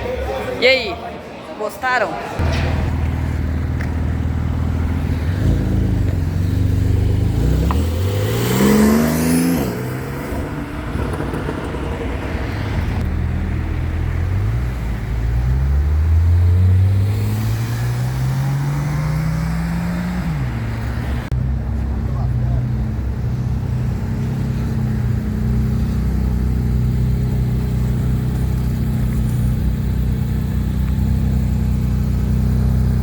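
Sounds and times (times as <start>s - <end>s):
sports car engine revving: 2.4s - 33.0s.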